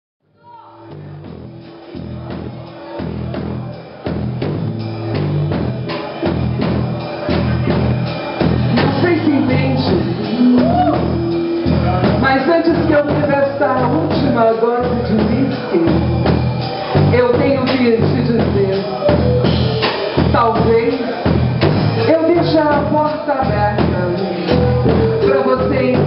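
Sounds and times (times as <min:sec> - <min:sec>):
blues band playing: 0:00.5 - 0:26.0.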